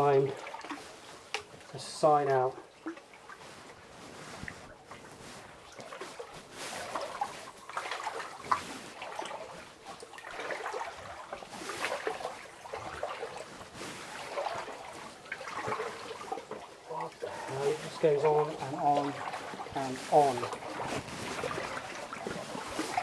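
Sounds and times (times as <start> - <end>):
water sloshing from wading: 0.0 - 23.0.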